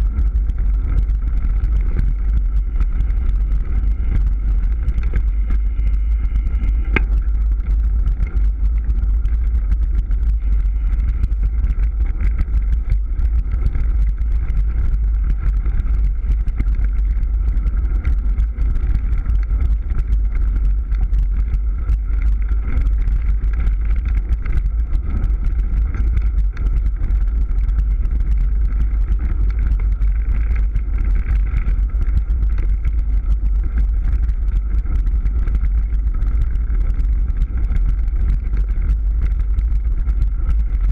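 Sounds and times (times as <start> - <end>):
bike rattling and knocking: 0.0 - 40.9
wind rumble on microphone: 0.0 - 40.9.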